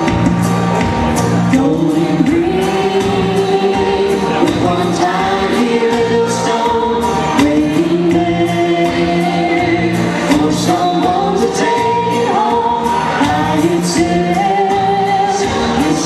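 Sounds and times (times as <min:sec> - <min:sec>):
country instrumental accompaniment: 0:00.0 - 0:16.0
man and woman singing duet: 0:01.4 - 0:16.0.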